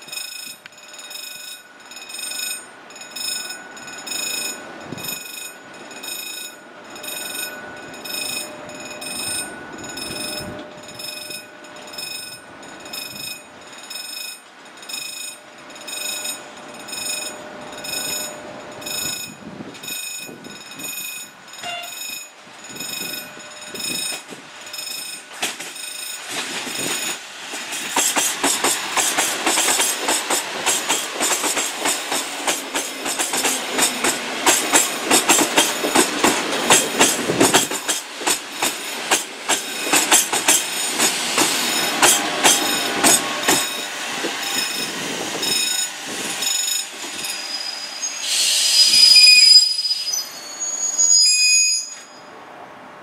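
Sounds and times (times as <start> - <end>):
level-crossing warning bell ringing: 0.0 - 27.2, 28.8 - 48.2, 50.2 - 52.4
train running noise: 0.0 - 53.0.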